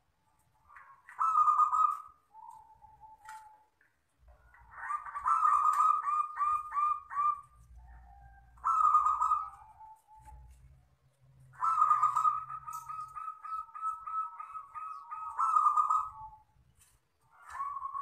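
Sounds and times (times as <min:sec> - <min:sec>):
dove cooing: 0:00.6 - 0:03.7, 0:04.3 - 0:10.8, 0:11.4 - 0:16.6, 0:17.2 - 0:18.0.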